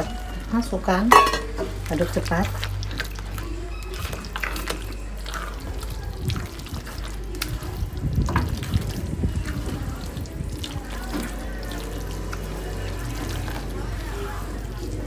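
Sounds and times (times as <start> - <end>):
spatula stirring and scraping in pan: 0.0 - 15.0.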